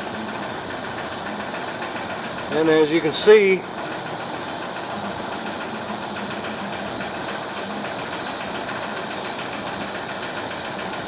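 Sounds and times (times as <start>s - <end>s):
machine hiss and hum: 0.0s - 11.0s.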